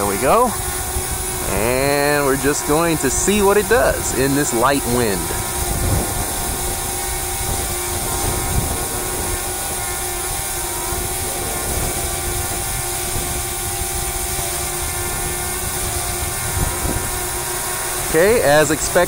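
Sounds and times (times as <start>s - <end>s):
drone propellers whining: 0.0s - 19.0s
wind rumbling on microphone: 0.0s - 19.0s.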